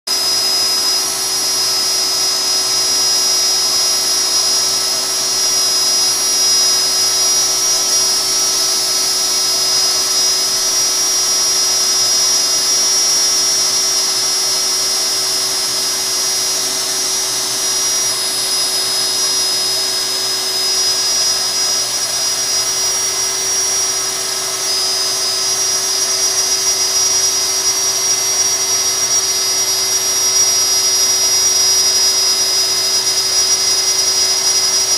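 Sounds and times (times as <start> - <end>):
router whining while cutting: 0.1 - 34.9.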